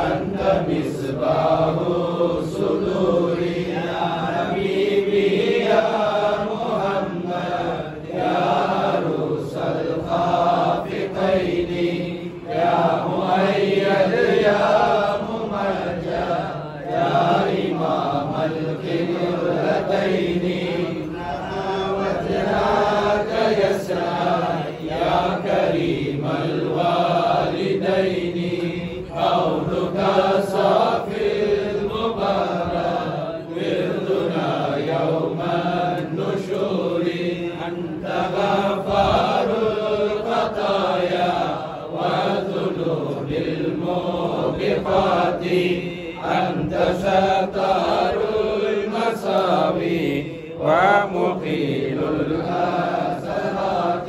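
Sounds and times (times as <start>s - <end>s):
men chanting: 0.0s - 54.0s.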